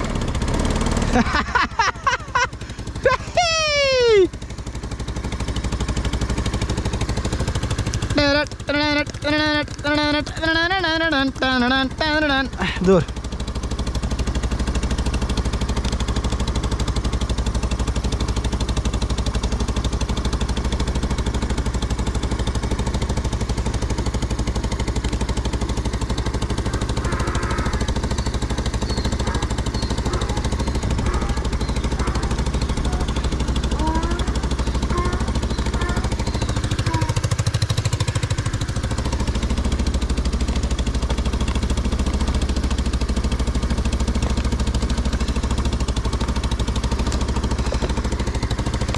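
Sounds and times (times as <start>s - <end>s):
engine idling with rapid pulse: 0.0s - 48.9s.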